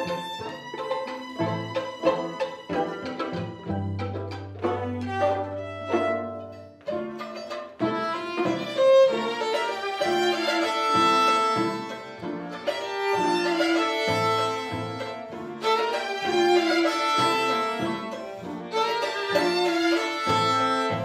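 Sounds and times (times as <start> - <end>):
string quartet playing: 0.0 - 21.0.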